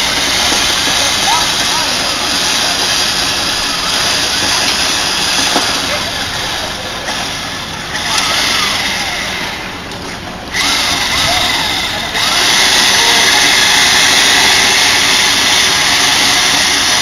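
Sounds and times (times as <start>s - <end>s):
distant shouts: 0.0s - 17.0s
steady machine noise: 0.0s - 17.0s.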